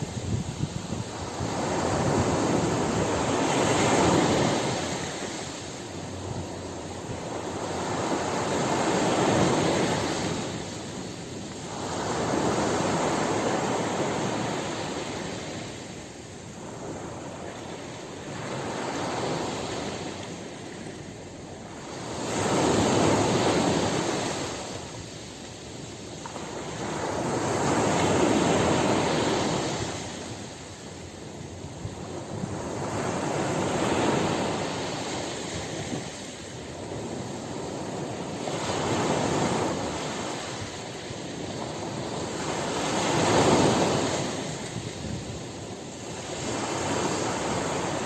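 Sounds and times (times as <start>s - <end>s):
ocean waves crashing on beach: 0.0s - 48.0s.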